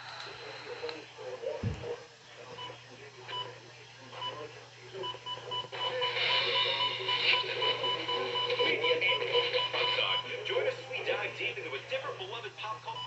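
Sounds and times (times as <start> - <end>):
program audio with music and voices: 0.2 - 13.0.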